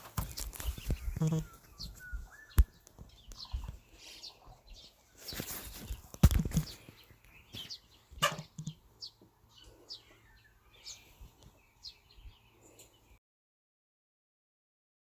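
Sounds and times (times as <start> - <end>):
small birds chirping: 0.0 - 13.2.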